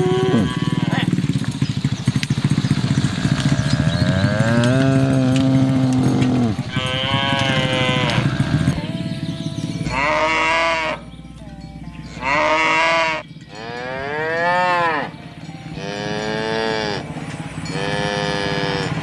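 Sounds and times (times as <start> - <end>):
cattle mooing: 0.0 - 1.5, 2.6 - 9.2, 9.8 - 19.0.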